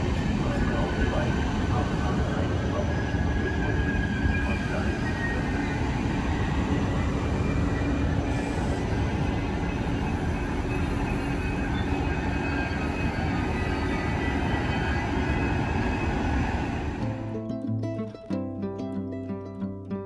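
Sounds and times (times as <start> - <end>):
train wheels rumbling on rails: 0.0 - 17.3.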